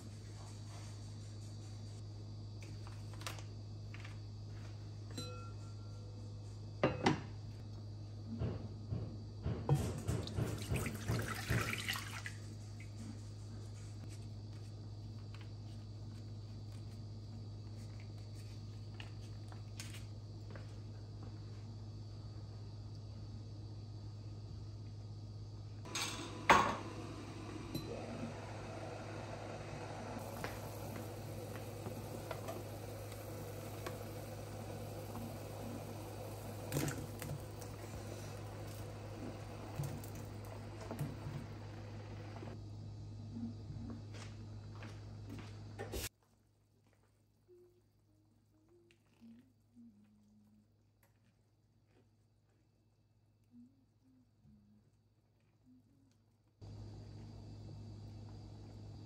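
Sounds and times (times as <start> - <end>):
steady low hum: 0.0 - 10.4, 12.2 - 59.0.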